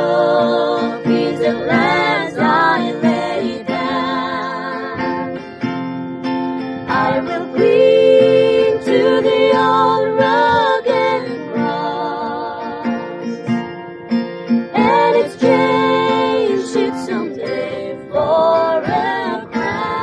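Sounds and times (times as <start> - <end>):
women singing a hymn: 0.0 - 5.7, 6.8 - 13.4, 14.7 - 20.0
strummed acoustic guitar: 0.0 - 20.0.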